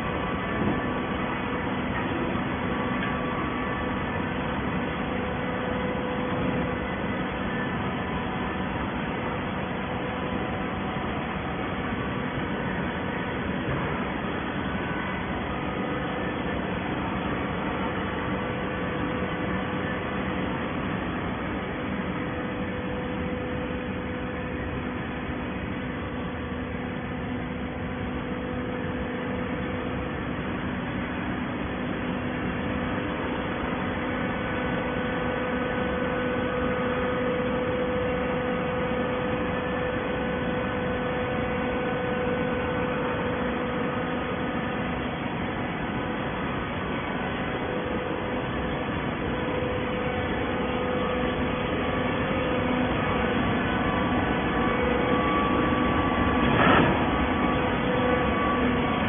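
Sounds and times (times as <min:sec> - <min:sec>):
hydraulic baler humming and whining: 0:00.0 - 0:59.0.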